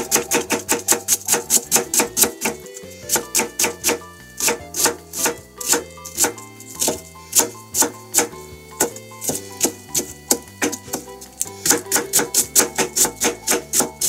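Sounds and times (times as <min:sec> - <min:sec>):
background music: 0:00.0 - 0:14.0
knife shredding cabbage on board: 0:00.0 - 0:14.0.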